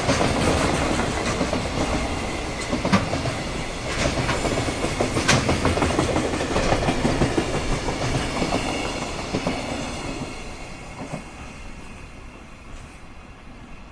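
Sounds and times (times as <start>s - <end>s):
train wheels clattering over rails: 0.0s - 12.0s.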